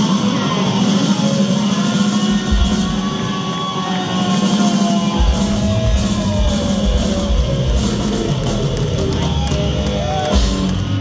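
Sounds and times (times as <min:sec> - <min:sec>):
drum kit: 0:00.0 - 0:11.0.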